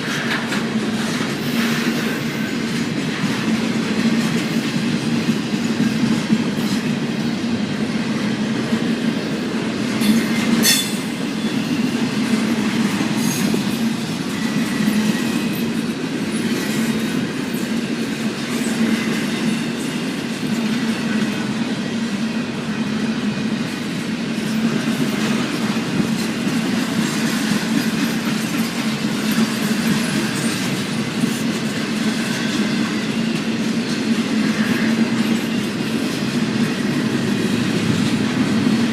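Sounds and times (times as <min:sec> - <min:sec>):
wheels clattering on rails: 0:00.0 - 0:38.9.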